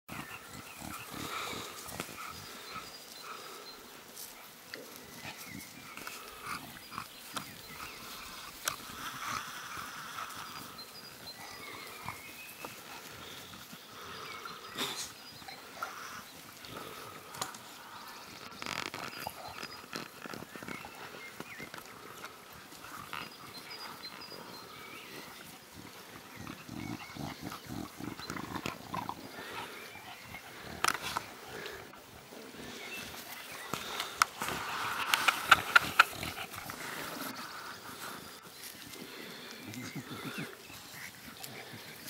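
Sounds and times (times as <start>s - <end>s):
puppies growling and grunting: 0.1s - 42.0s.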